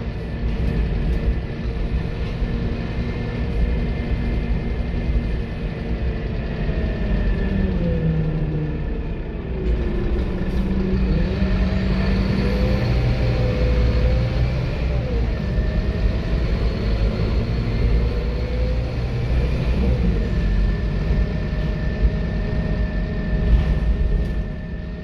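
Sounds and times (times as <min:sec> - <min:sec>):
diesel bus engine rumble: 0:00.0 - 0:25.0
drivetrain whine: 0:00.0 - 0:25.0.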